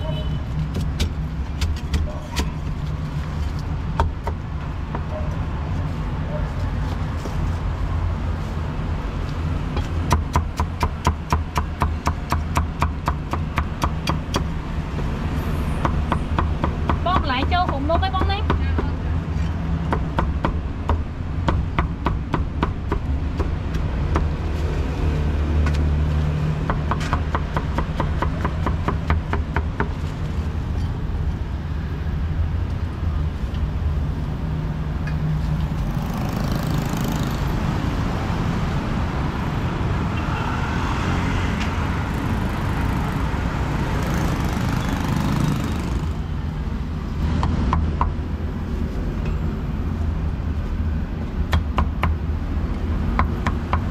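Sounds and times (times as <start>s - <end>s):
street traffic rumble: 0.0s - 53.9s.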